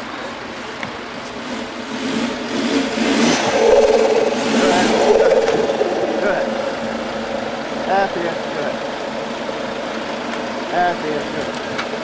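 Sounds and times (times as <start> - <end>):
off-road vehicle engine revving: 1.4 - 12.0.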